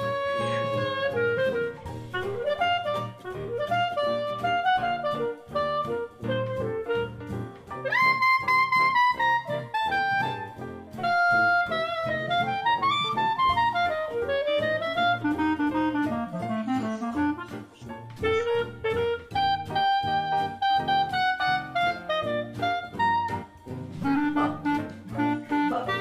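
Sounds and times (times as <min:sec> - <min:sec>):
jazzy saxophone music: 0:00.0 - 0:26.0.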